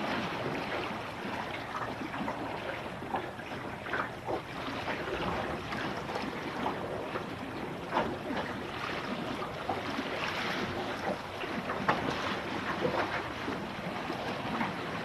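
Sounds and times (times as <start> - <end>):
water slapping against boat hull: 0.0 - 15.0
wind: 0.0 - 15.0.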